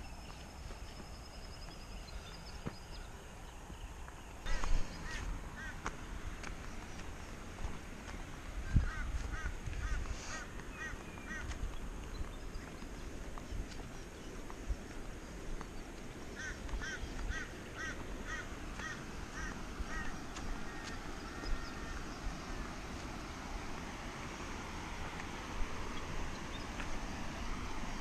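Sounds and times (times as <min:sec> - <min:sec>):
steady low rumble: 0:03.0 - 0:28.0.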